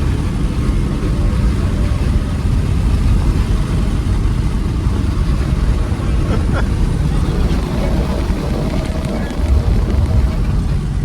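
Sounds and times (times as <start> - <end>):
car engine and road noise rumble: 0.0 - 11.0.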